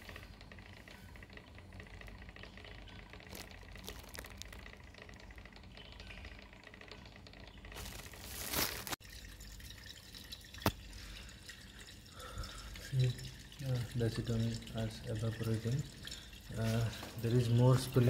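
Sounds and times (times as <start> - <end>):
liquid bubbling and swirling: 0.0 - 18.0.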